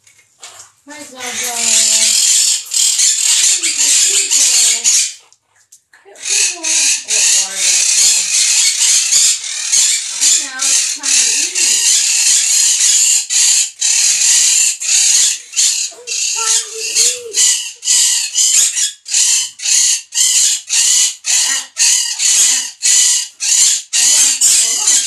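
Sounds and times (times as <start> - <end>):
parrots screeching: 0.5 - 5.2, 6.2 - 25.0.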